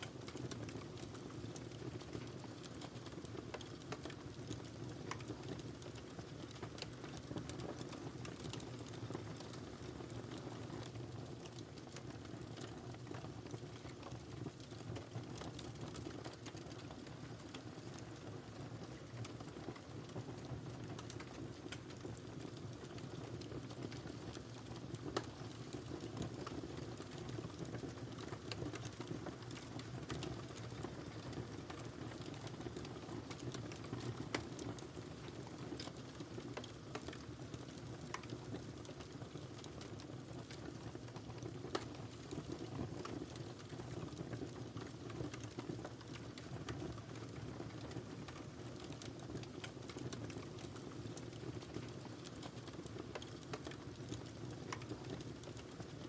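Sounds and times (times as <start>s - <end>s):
fire crackling: 0.0s - 56.0s
fire popping: 0.0s - 56.0s
fire rumbling: 0.0s - 56.0s.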